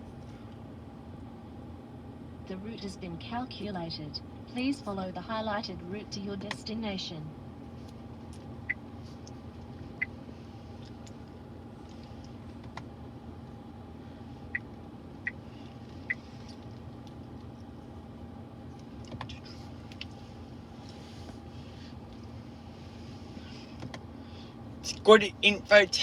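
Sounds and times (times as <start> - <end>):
low cabin hum: 0.0 - 26.0.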